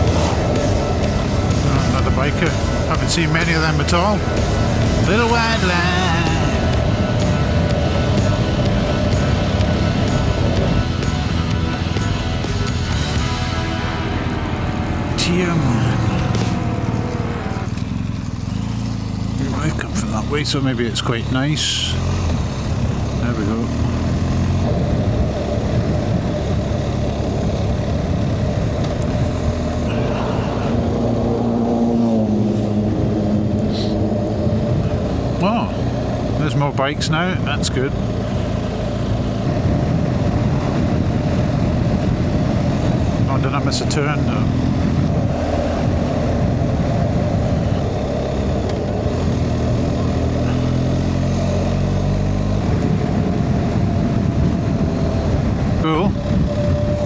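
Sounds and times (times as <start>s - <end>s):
wind rush: 0.0s - 17.8s, 24.6s - 36.4s, 38.2s - 43.4s, 44.2s - 50.9s, 52.5s - 57.0s
motorcycle engine running: 0.0s - 57.0s.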